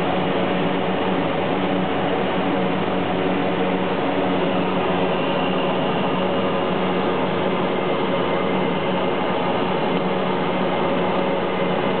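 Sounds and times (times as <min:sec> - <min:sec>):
turboprop engines humming: 0:00.0 - 0:12.0.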